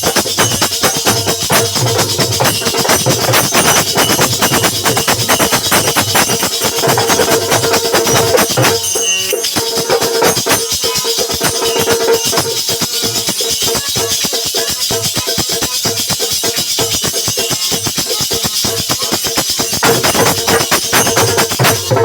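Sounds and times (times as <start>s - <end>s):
folk drums and jingles: 0.0s - 22.0s.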